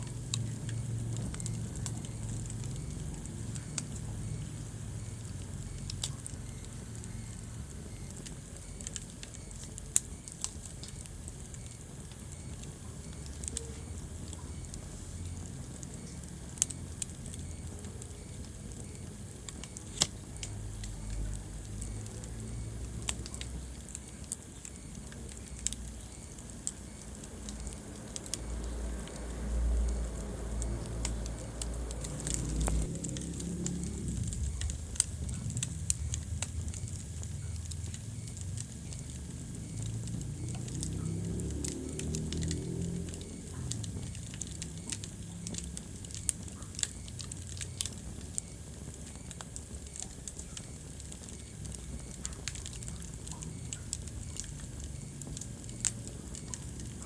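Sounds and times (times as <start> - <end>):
fire pops and snaps: 0.0 - 57.0
wood fire crackling: 0.0 - 57.0.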